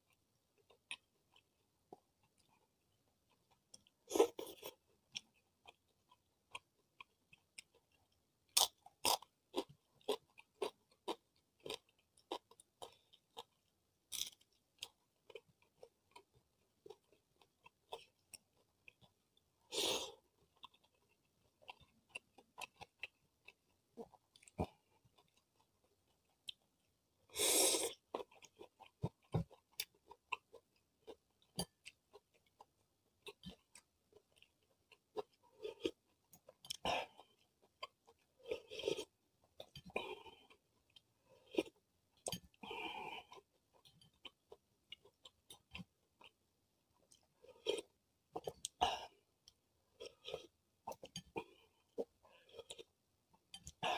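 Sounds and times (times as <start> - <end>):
longer noisy eating sounds: 0.0 - 53.9.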